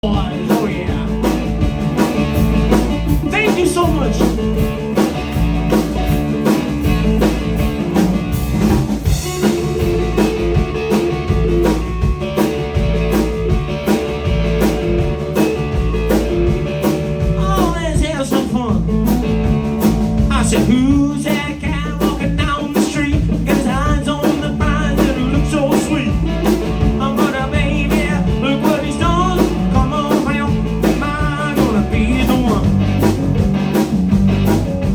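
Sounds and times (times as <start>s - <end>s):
bass guitar: 0.0s - 34.9s
electric guitar: 0.0s - 34.9s
steady drum beat: 0.0s - 34.9s.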